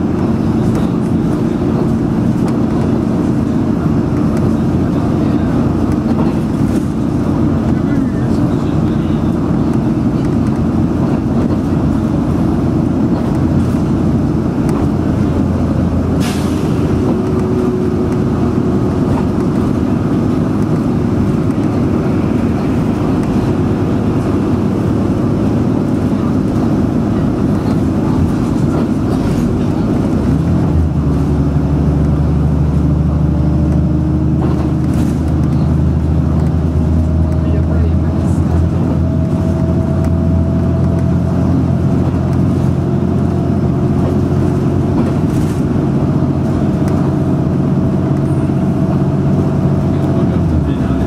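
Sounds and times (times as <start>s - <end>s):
bus engine running: 0.0s - 51.0s
road noise: 0.0s - 51.0s.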